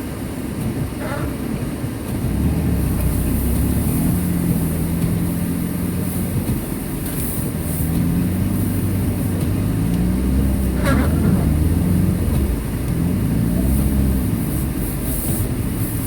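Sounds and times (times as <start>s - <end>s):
car engine running: 0.0s - 16.0s
road noise hiss: 0.0s - 16.0s.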